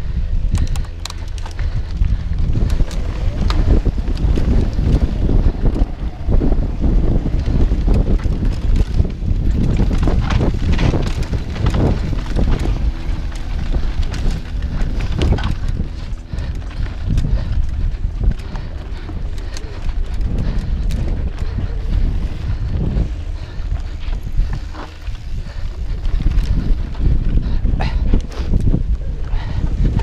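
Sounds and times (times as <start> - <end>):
bike rattling and knocking: 0.0 - 30.0
wind buffeting microphone: 0.0 - 30.0
tyres rumbling over dirt: 0.5 - 30.0.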